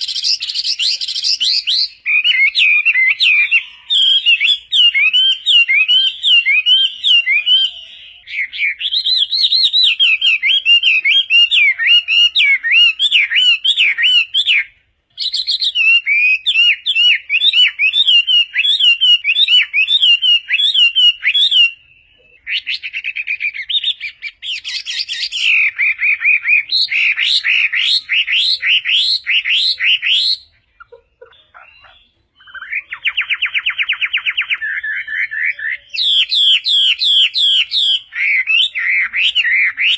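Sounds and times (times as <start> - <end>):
bird singing whistled notes: 0.0 - 39.9
bird trill: 0.0 - 39.9.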